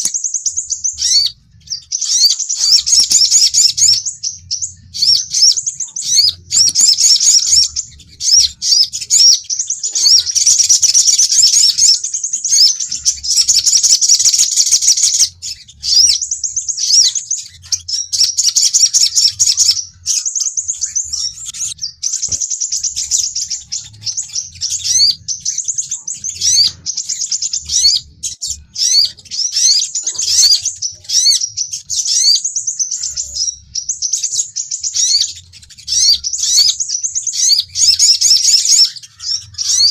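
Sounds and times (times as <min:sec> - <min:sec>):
sunbirds chirping: 0:00.0 - 0:39.9.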